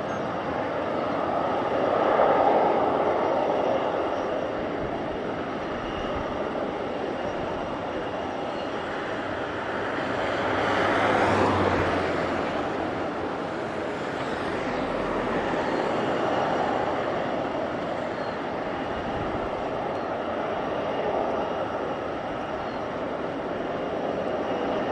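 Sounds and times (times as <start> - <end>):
jet engines rushing: 0.0 - 24.9.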